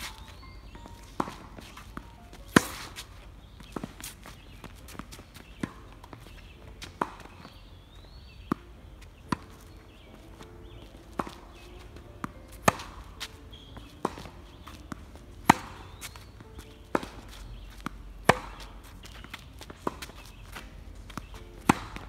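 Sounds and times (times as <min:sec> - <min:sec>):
ball bouncing on hard court: 0:00.0 - 0:22.0
rackets hitting tennis ball: 0:00.0 - 0:22.0.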